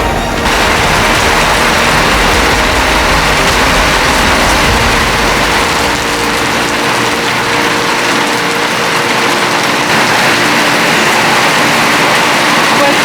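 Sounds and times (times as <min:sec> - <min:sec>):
low rumble: 0:00.0 - 0:11.5
heavy rain pouring: 0:00.0 - 0:13.0.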